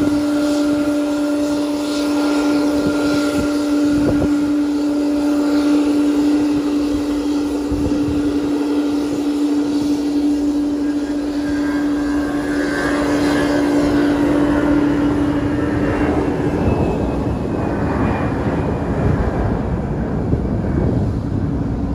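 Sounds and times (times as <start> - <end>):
high engine whine: 0.0 - 21.9
jet engines humming: 0.0 - 21.9
low rumble: 0.0 - 21.9.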